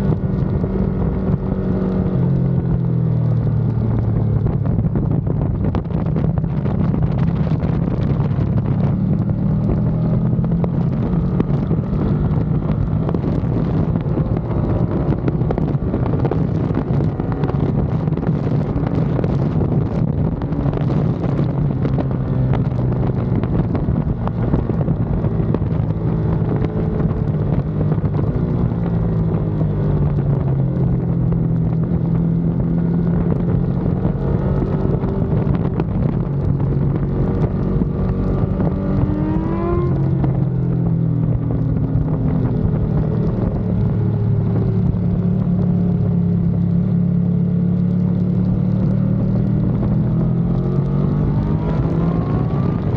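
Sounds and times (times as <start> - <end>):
motorcycle engine revving: 0.0 - 52.9
wind buffeting microphone: 0.0 - 52.9.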